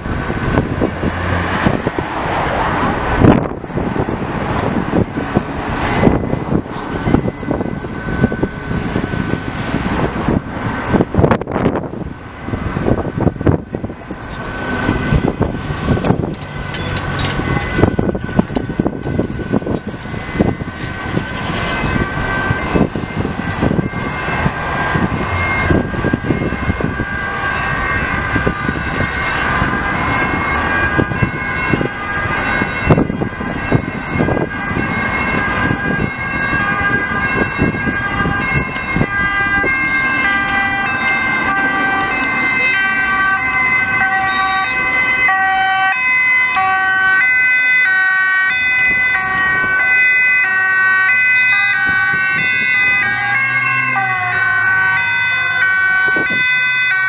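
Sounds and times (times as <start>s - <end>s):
emergency vehicle sirens wailing: 0.0s - 57.0s
road traffic rumble: 0.0s - 57.0s.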